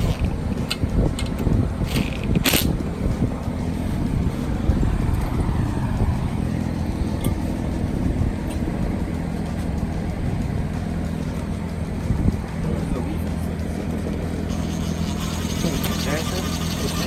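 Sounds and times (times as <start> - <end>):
low motor rumble: 0.0 - 17.0.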